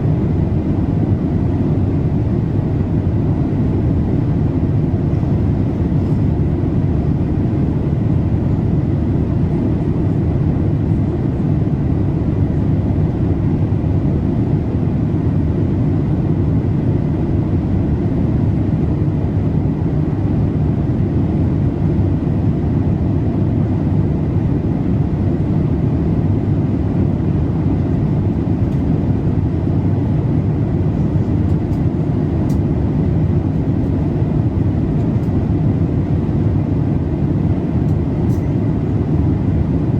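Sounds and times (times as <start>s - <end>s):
airplane cabin noise: 0.0s - 39.9s.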